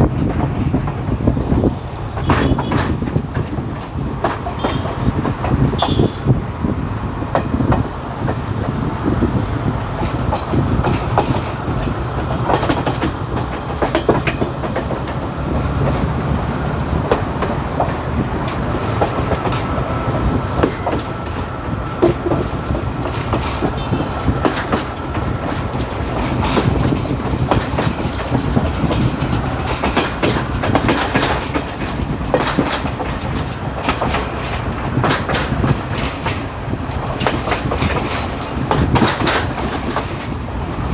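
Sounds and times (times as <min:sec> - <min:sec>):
train rumbling on track: 0:00.0 - 0:40.9
wheels clacking over rail joints: 0:00.0 - 0:40.9.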